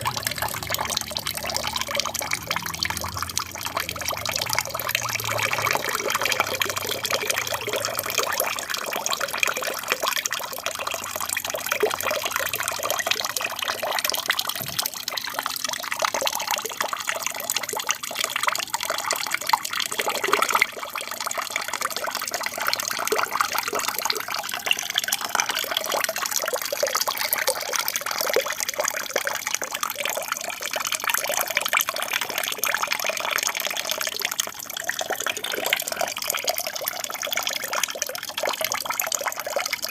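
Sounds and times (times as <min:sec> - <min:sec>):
aquarium waterfall trickling: 0:00.0 - 0:39.9.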